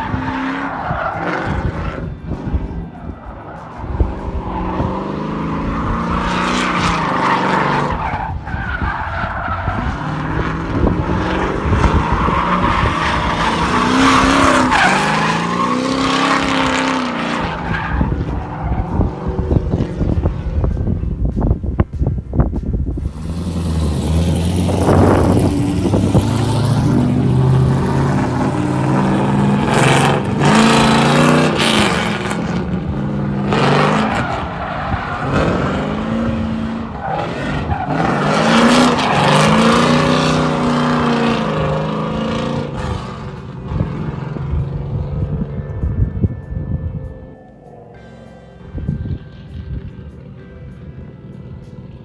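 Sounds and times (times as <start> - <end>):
car engine revving: 0.0 - 21.9, 22.6 - 46.0
rushing exhaust noise: 0.0 - 47.1.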